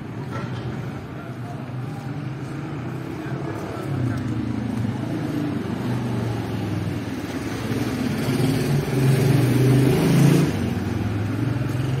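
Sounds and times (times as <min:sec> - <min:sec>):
city noise: 0:00.0 - 0:12.0
vehicle engine revving: 0:02.2 - 0:12.0.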